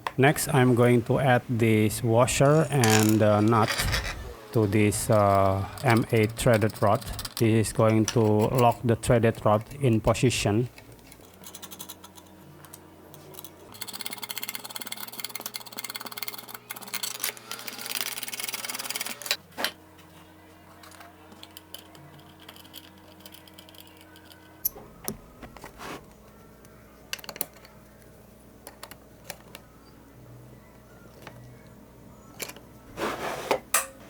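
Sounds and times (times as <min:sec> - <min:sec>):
soft background music: 0:00.2 - 0:34.0.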